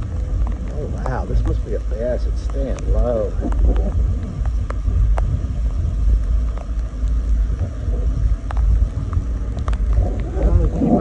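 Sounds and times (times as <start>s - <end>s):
sharp ticks: 0.0s - 11.0s
wind buffeting microphone: 0.0s - 11.0s.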